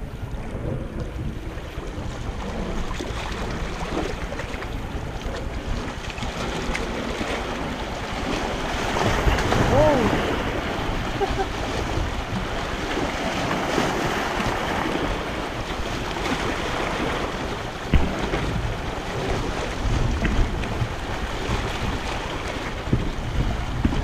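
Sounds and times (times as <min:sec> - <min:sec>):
waves splashing over rocks: 0:00.0 - 0:24.0
wind rumbling on microphone: 0:00.0 - 0:24.0.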